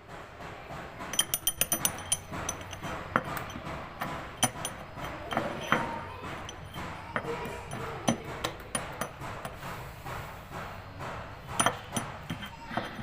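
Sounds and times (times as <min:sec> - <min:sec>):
hammer striking metal: 0:00.4 - 0:13.0.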